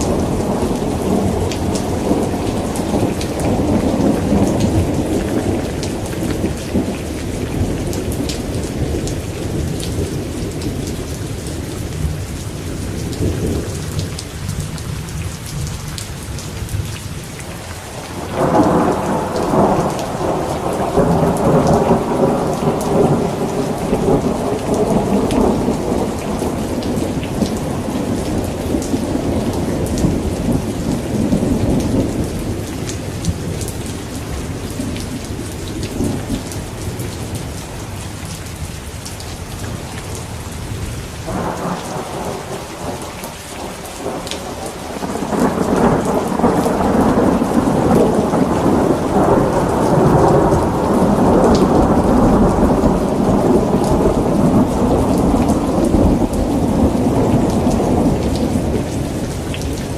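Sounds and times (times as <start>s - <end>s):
thunder rumbling: 0.0s - 15.0s, 17.8s - 37.8s, 40.7s - 59.9s
steady rain: 0.0s - 59.9s.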